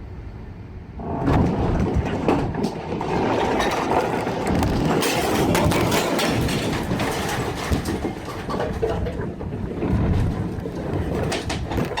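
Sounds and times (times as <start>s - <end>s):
floodwater rushing rumble: 0.9s - 12.0s.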